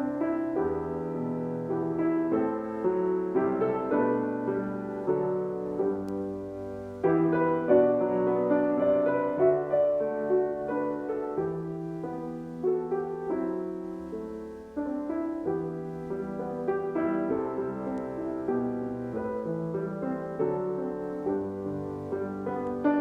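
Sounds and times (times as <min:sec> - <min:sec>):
piano playing a slow hymn: 0:00.0 - 0:23.0.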